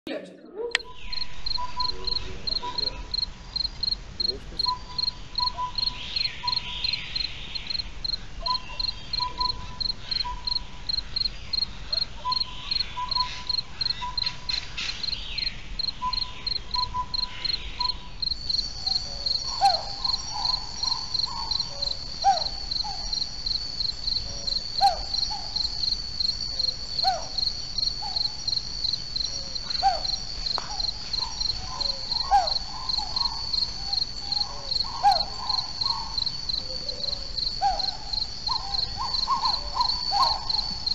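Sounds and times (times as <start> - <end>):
continuous high insect trill: 0.8 - 40.9
crickets chirping: 0.8 - 40.9
short lower insect calls: 0.8 - 40.9.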